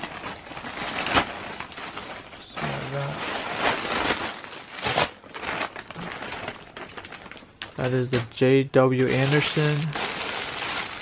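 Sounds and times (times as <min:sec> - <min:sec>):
plastic bag crinkling: 0:00.0 - 0:07.9, 0:09.0 - 0:11.0.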